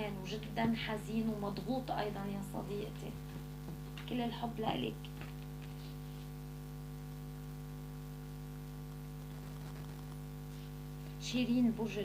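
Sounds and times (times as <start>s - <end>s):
electrical mains hum: 0.0s - 12.0s
faint background hiss: 0.0s - 12.0s.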